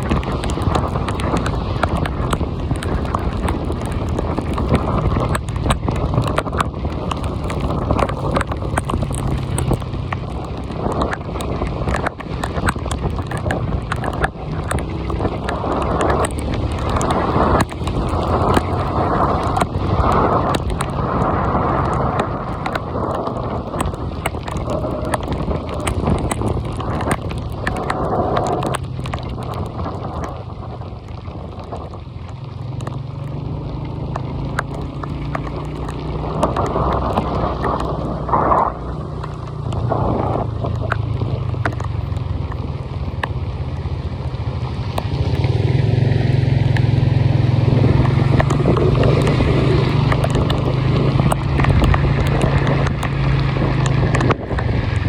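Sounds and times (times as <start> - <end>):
rain falling: 0.0 - 55.0
raindrops clicking near microphone: 0.0 - 55.0.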